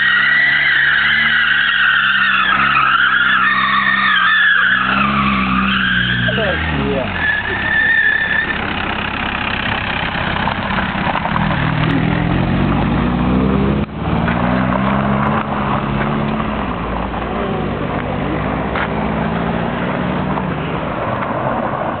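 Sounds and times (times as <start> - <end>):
car engine revving: 0.0 - 22.0
tyres on gravel: 0.0 - 22.0.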